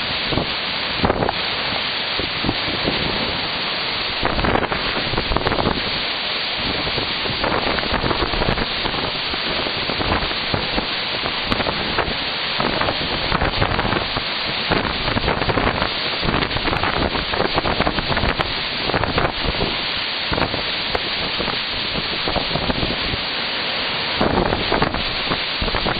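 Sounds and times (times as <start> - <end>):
rain: 0.0 - 25.9
strong wind gusts buffeting microphone: 0.0 - 25.9.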